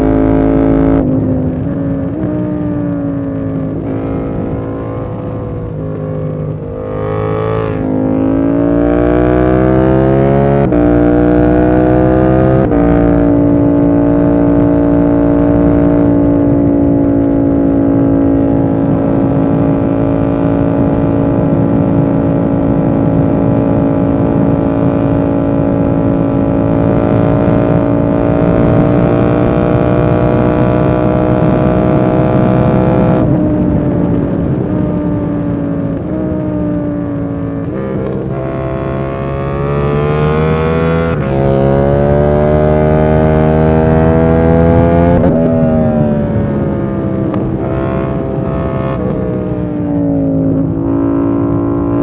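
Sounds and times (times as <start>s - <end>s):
motorcycle engine accelerating: 0.0s - 52.0s.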